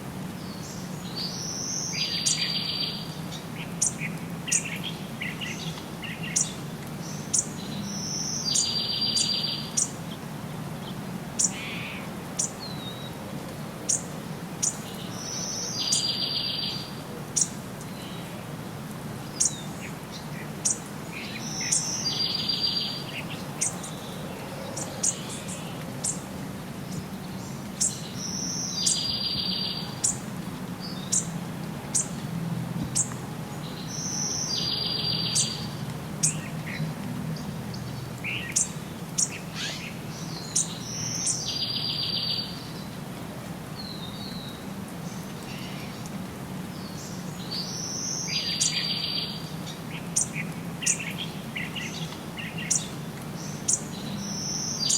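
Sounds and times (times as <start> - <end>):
birds chirping: 0.4 - 10.2, 13.9 - 18.3, 19.3 - 32.2, 32.9 - 43.0, 46.7 - 54.9.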